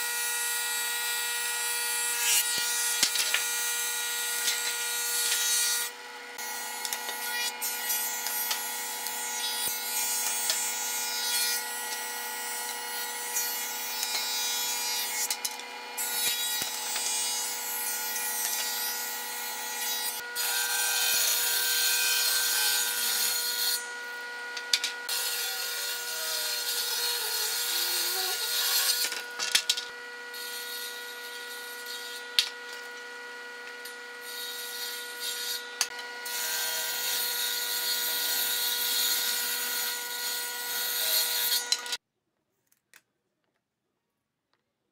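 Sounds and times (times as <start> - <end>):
planer shaving wood: 0.0 - 42.0
woodworking machine whine: 0.0 - 42.0.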